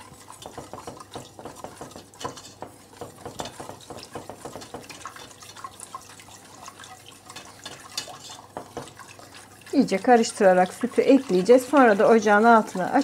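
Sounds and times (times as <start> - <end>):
milk trickling: 0.0 - 13.0
whisk clicking and scraping pan: 0.0 - 13.0.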